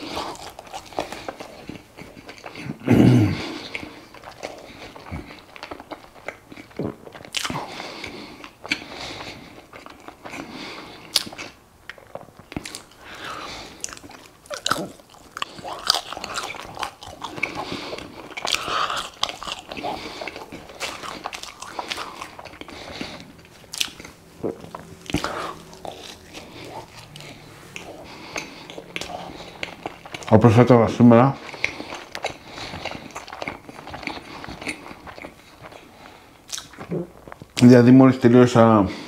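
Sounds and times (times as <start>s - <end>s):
person chewing food: 0.0s - 37.7s.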